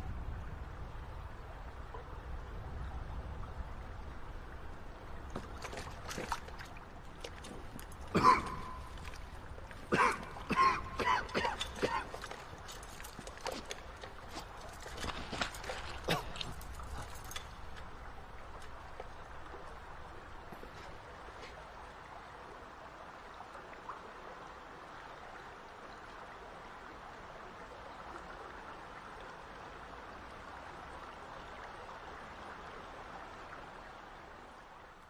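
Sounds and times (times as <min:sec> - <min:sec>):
running water trickling: 0:00.0 - 0:35.0.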